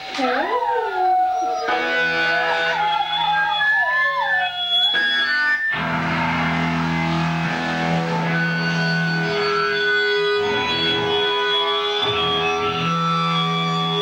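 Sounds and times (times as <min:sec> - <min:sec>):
live band with distorted guitar: 0:01.3 - 0:14.0.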